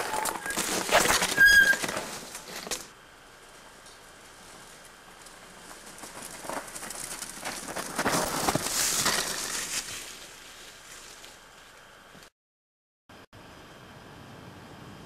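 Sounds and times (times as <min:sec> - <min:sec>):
bike tyres rolling over dirt: 0:00.0 - 0:12.3.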